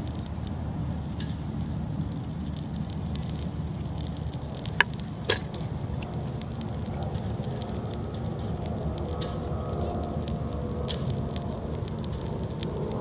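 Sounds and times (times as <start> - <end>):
fire popping: 0.0 - 13.0
wood fire crackling: 0.0 - 13.0.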